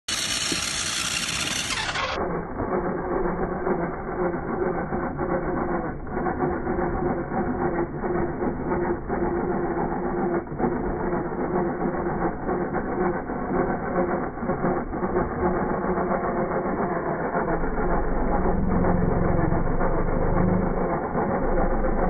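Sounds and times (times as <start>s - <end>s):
small motor humming: 0.0s - 22.0s.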